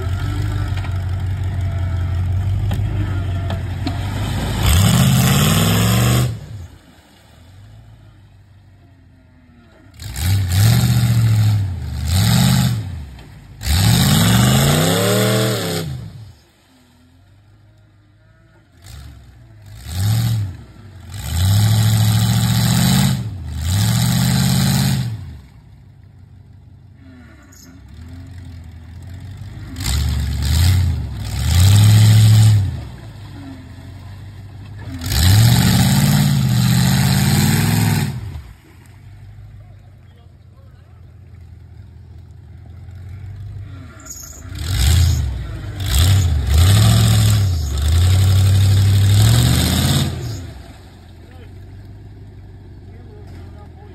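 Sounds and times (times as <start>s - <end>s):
tires churning through mud: 0.0s - 53.9s
truck engine revving: 0.0s - 53.9s.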